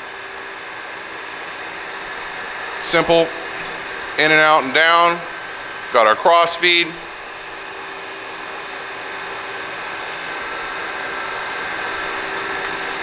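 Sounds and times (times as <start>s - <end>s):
lathe running: 0.1s - 13.0s.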